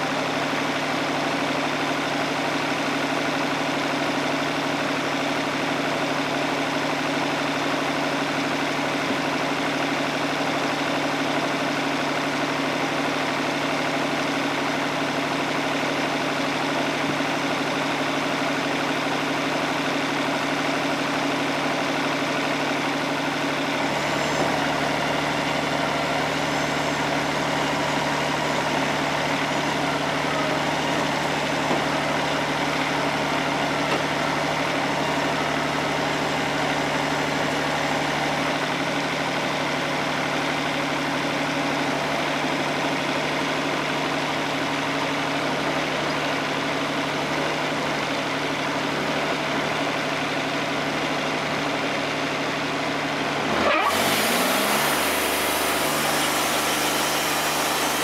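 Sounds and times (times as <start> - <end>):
sawmill engine idling: 0.0 - 58.0.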